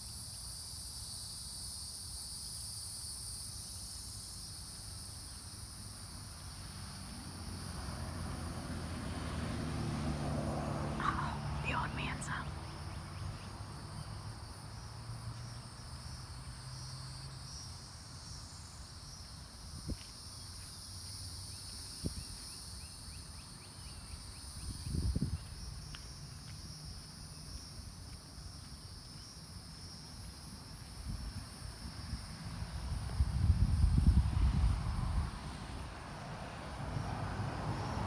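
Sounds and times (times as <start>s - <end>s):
insects buzzing: 0.0s - 38.0s.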